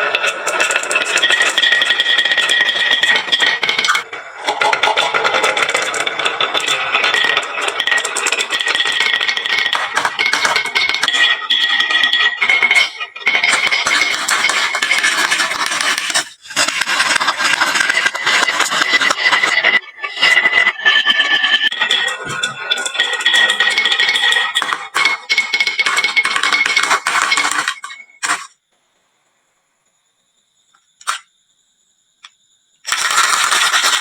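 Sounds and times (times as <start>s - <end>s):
marbles clattering down wooden run: 0.0s - 28.5s, 32.9s - 34.0s.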